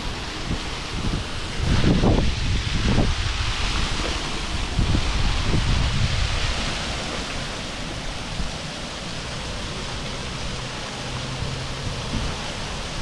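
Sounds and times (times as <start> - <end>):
water rushing through lock gate: 0.0 - 13.0.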